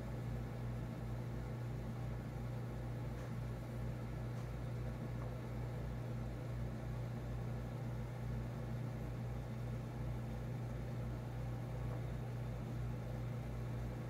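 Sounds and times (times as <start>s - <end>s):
aquarium pumps humming: 0.0s - 14.0s.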